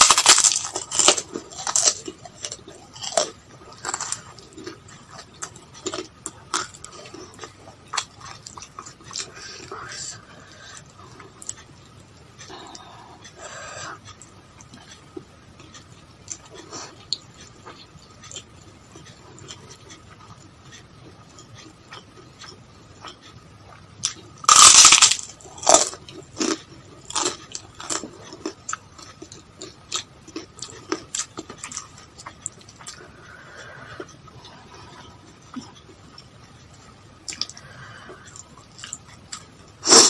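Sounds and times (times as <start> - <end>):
crunching and chewing: 0.0 - 40.0.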